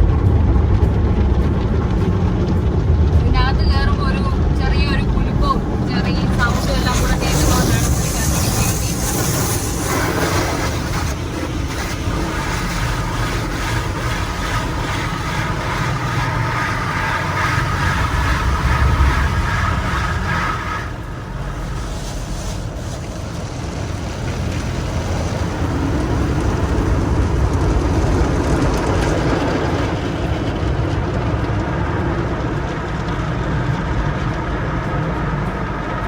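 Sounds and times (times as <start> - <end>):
car wash water spray and machinery: 0.0 - 36.0.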